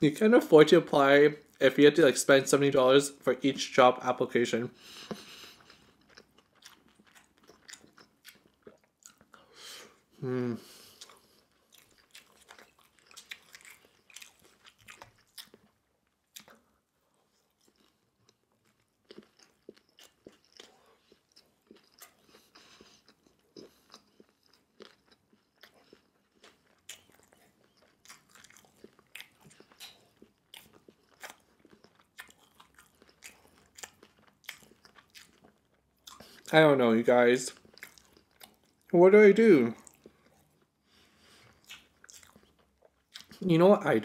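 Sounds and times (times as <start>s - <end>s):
person chewing food: 4.8s - 36.5s, 37.5s - 38.9s, 39.7s - 43.4s.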